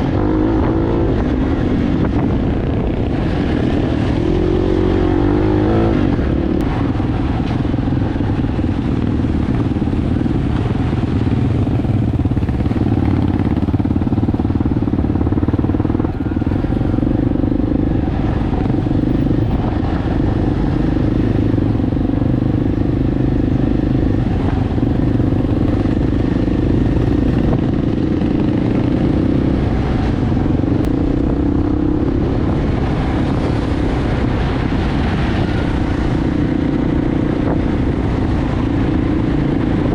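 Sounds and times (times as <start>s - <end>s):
motorbike engine running steadily: 0.0s - 39.9s.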